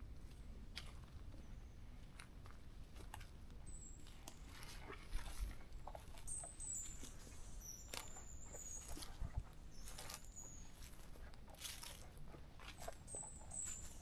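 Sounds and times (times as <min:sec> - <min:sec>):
footsteps on forest trail: 0:02.2 - 0:14.0.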